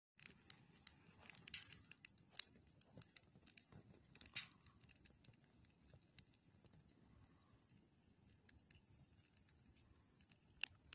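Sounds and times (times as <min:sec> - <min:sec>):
wood fire crackling: 0:00.2 - 0:10.9.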